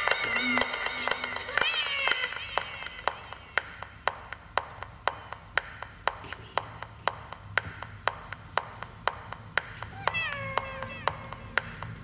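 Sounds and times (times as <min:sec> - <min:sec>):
steady sharp clicks: 0:00.0 - 0:12.0.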